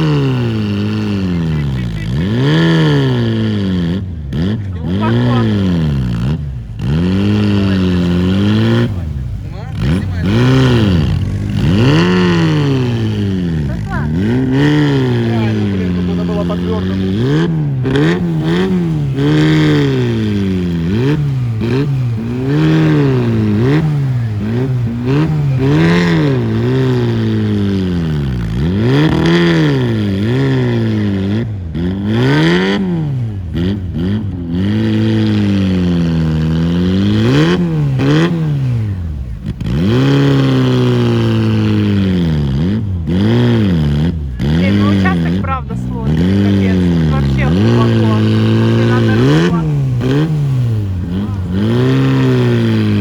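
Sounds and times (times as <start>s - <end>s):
engine revving hard: 0.0s - 53.0s.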